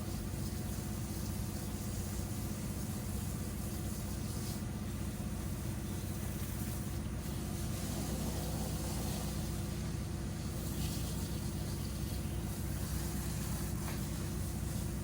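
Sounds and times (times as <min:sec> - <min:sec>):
pressure washer engine running: 0:00.0 - 0:15.0.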